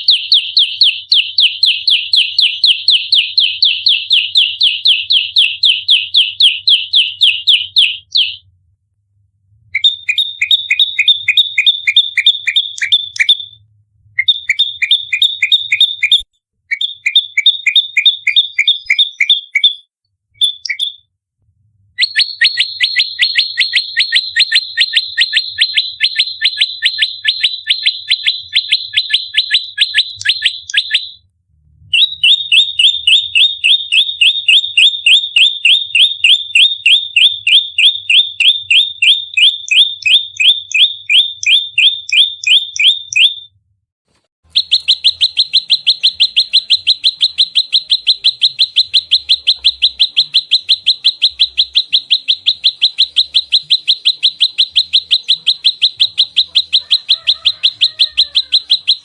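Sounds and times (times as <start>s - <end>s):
songbird rapid chirping: 0.0s - 8.5s, 9.7s - 13.6s, 14.2s - 21.1s, 22.0s - 31.2s, 31.9s - 43.5s, 44.5s - 59.0s.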